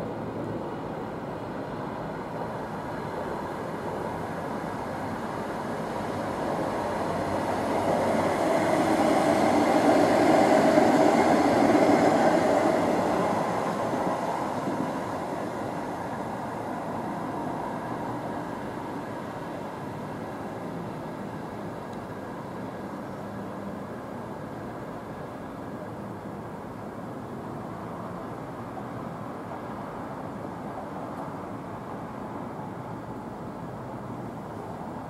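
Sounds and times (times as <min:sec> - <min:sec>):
tram rumbling past on rails: 0:00.0 - 0:35.0.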